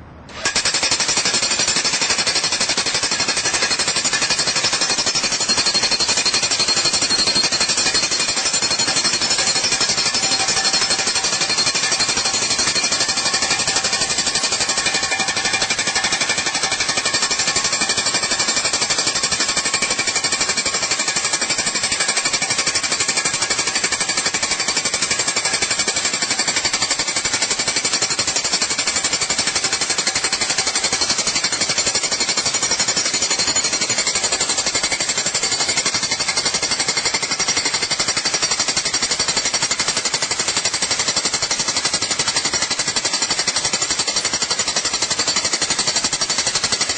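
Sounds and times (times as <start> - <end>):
demolition hammer hammering: 0.3 - 46.9.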